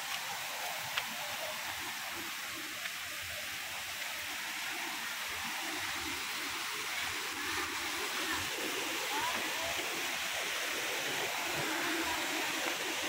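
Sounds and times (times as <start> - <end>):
stream and waterfall rushing: 0.0 - 13.0.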